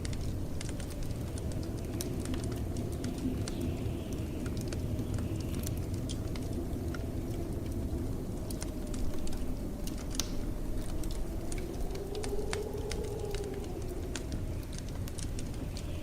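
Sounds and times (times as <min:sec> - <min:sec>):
blizzard wind rumble: 0:00.0 - 0:16.0
wood fire crackling: 0:00.0 - 0:16.0.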